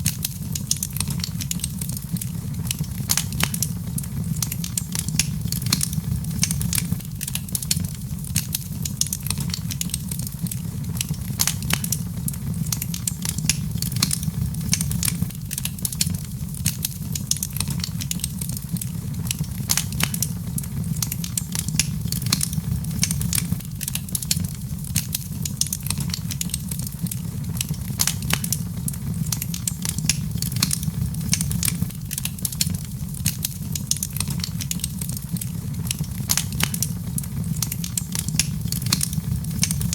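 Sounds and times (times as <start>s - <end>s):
wood fire crackling: 0.0s - 39.9s
steady low rumble: 2.2s - 8.3s, 9.4s - 16.6s, 17.8s - 33.2s, 34.3s - 39.9s.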